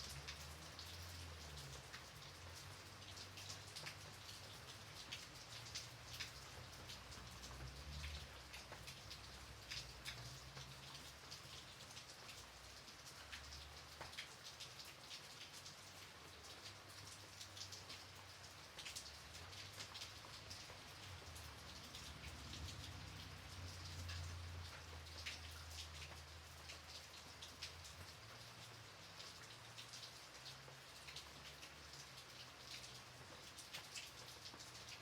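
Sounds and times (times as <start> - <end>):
gentle rain: 0.0 - 35.0.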